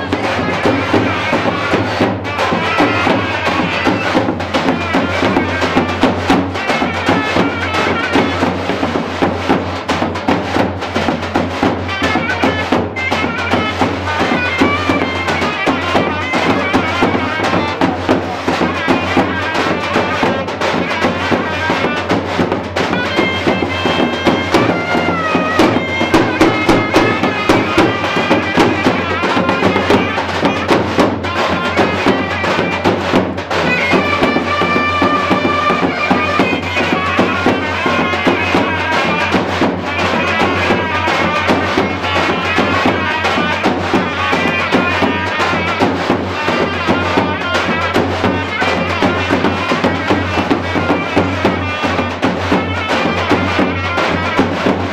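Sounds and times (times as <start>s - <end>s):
bass drum beats: 0.0s - 44.2s
shawm melody: 0.0s - 54.9s.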